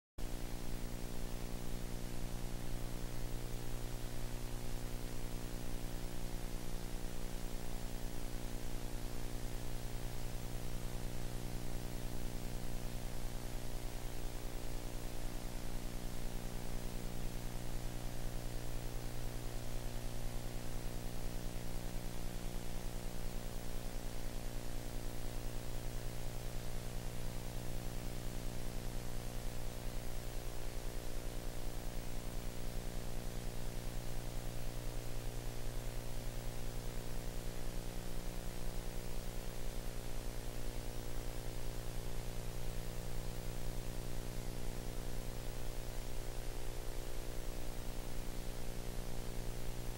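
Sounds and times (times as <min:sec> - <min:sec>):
electrical hum and buzz: 0:00.2 - 0:49.9
transfer noise hiss: 0:00.2 - 0:49.9.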